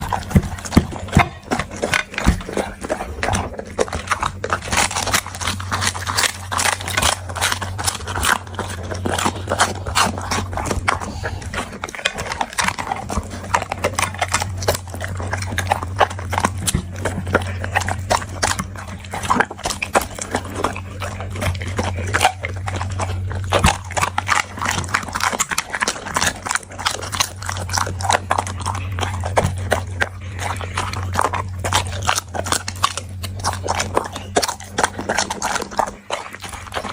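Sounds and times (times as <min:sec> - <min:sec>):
dog chewing and crunching food: 0:00.0 - 0:36.9
steady low hum: 0:00.0 - 0:36.9.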